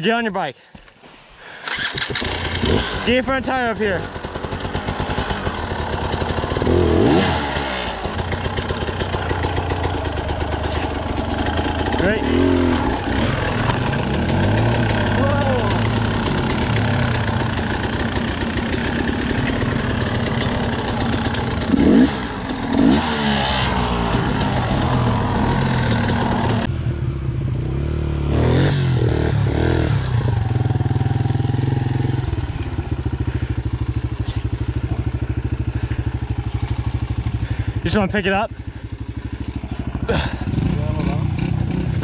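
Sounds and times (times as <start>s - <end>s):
dirt bike engine idling: 1.4s - 28.1s, 29.2s - 42.0s.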